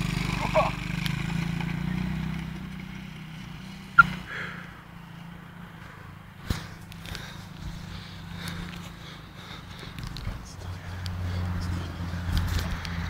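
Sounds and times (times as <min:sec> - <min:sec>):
small vehicle motors humming: 0:00.0 - 0:13.0.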